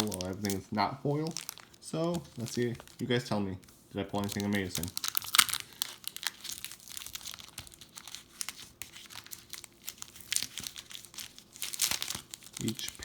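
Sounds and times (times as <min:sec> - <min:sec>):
foil wrapper crinkling: 0:00.0 - 0:03.4, 0:04.1 - 0:13.0.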